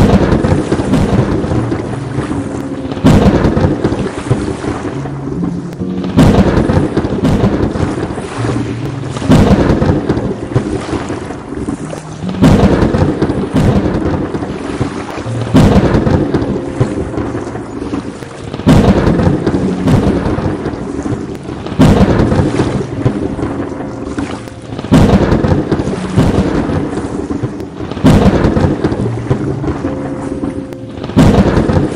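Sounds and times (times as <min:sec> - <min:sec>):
heavy rain hiss: 0:00.0 - 0:31.9
thunder cracking and rumbling: 0:00.0 - 0:31.9.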